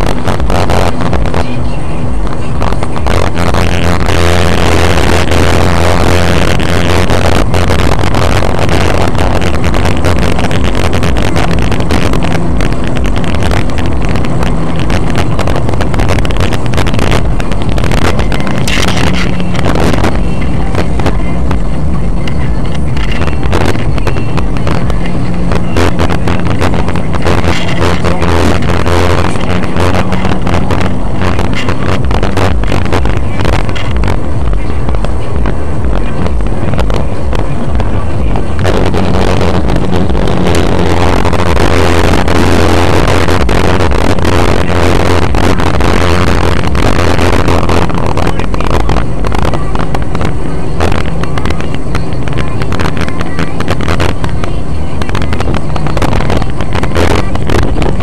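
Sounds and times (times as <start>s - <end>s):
engine and road drone: 0.0s - 58.0s
wind noise on microphone: 0.0s - 58.0s.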